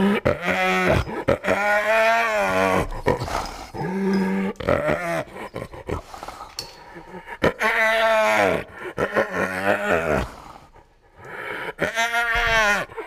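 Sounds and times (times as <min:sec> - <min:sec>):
kangaroo growling: 0:00.0 - 0:10.7.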